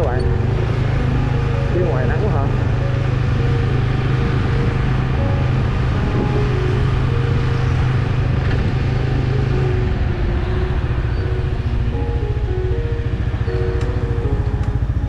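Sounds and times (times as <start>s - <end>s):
motorcycle engine droning: 0.0s - 15.0s
road and wind noise: 0.0s - 15.0s.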